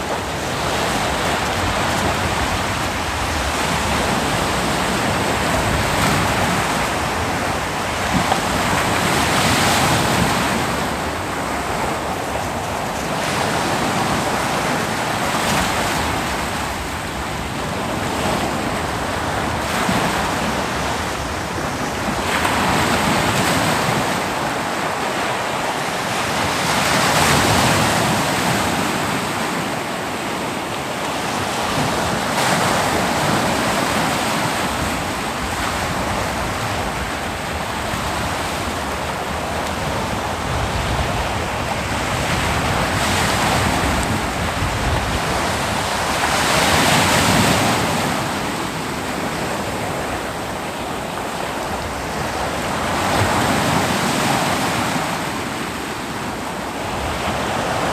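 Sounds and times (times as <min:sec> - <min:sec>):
ocean waves breaking on beach: 0:00.0 - 0:57.9
wind on microphone: 0:00.0 - 0:57.9.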